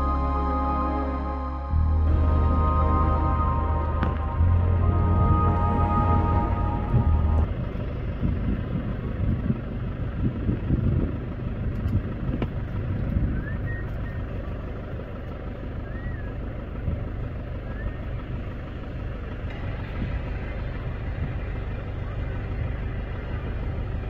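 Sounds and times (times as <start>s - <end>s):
distant jet engine rumble: 1.7s - 24.0s.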